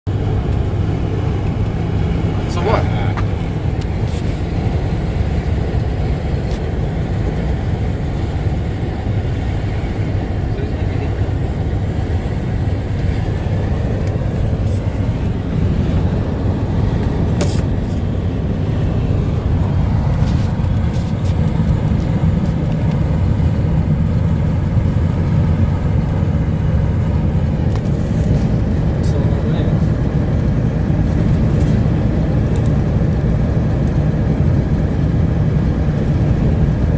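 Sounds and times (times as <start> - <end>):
vehicle engine and road noise: 0.0 - 36.9.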